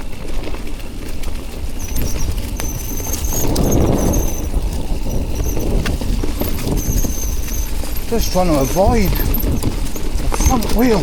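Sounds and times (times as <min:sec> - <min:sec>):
bike tyres rattling on rough trail: 0:00.0 - 0:11.0
low wind rumble: 0:00.0 - 0:11.0
bike disc brakes squealing: 0:01.7 - 0:11.0.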